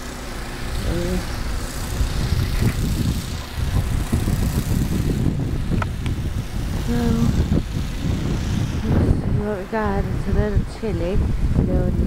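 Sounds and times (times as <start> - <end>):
snowblower engine rumbling: 0.0 - 12.0.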